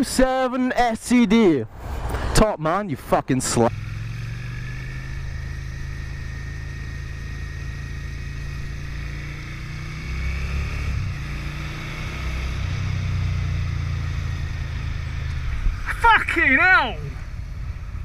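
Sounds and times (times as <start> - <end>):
motorcycle engine droning: 3.4 - 18.0.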